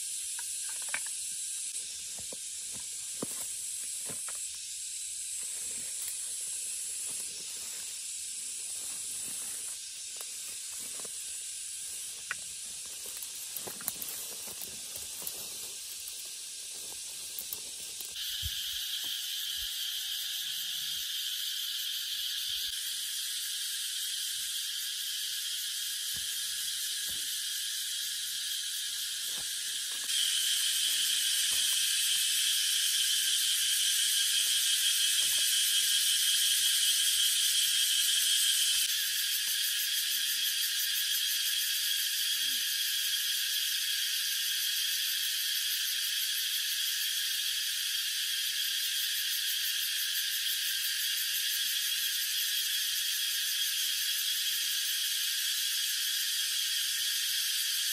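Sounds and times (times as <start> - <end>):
high-pitched hiss: 0.0 - 57.9.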